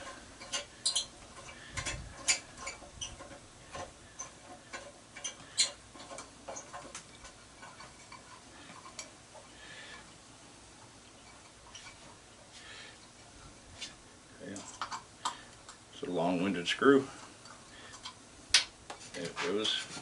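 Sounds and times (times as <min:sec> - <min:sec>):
hand tools and metal parts clicking: 0:00.0 - 0:10.2, 0:11.0 - 0:15.8, 0:17.4 - 0:20.0.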